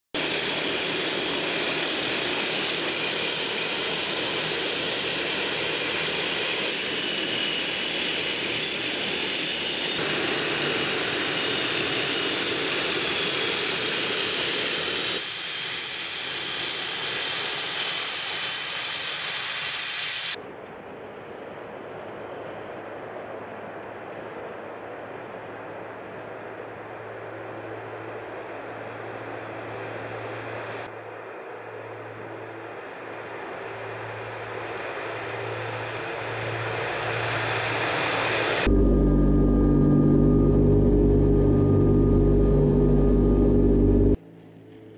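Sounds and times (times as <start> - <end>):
turboprop engines running: 0.2 - 44.9.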